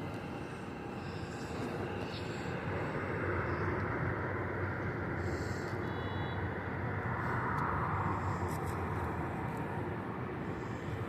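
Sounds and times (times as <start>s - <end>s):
distant jet engines roaring: 0.0s - 11.0s.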